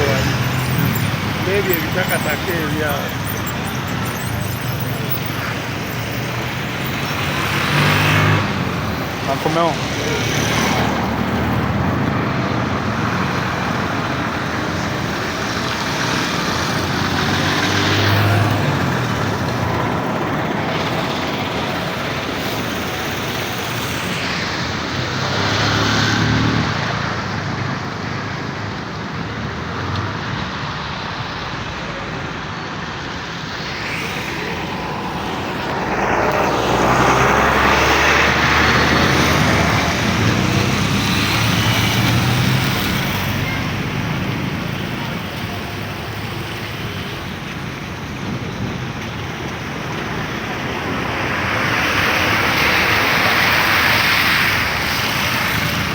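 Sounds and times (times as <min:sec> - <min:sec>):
vehicles passing: 0:00.0 - 0:55.9.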